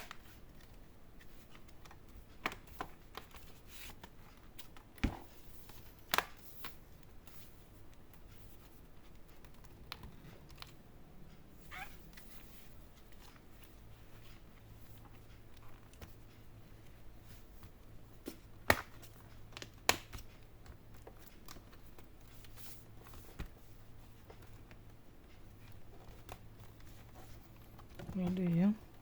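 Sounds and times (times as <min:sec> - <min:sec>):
soft rustling: 0:00.1 - 0:19.6, 0:20.2 - 0:29.0.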